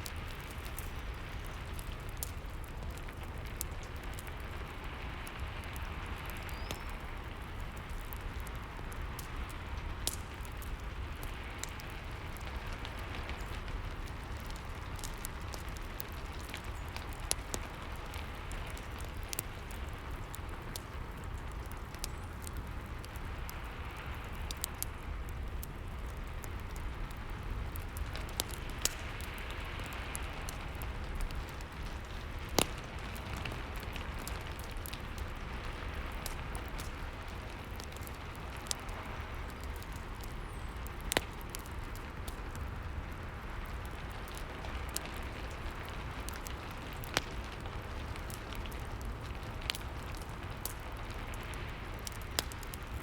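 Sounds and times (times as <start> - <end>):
fireplace crackling: 0.0 - 53.0
steady rain: 0.0 - 53.0.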